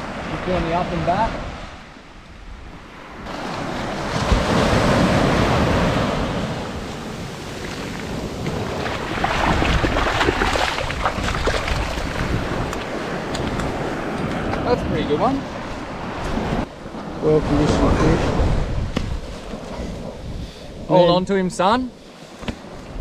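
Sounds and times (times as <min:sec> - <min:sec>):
wind buffeting microphone: 0:00.0 - 0:21.4
surf washing up beach: 0:02.8 - 0:23.0.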